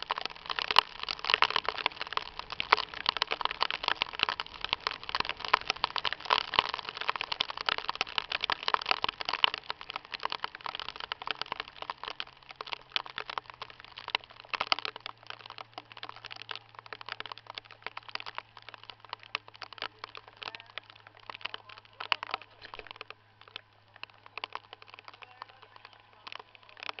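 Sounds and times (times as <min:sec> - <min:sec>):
hail and rain pelting: 0:00.0 - 0:27.0.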